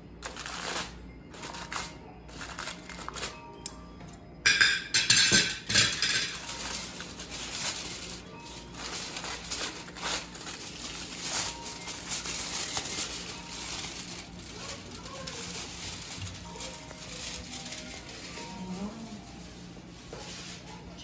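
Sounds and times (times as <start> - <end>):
aluminium foil crinkling: 0.2 - 3.8, 5.5 - 21.0.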